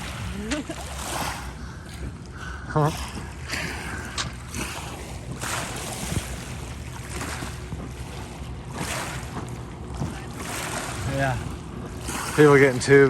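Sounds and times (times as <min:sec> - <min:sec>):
motorboat hum: 0:00.0 - 0:13.0.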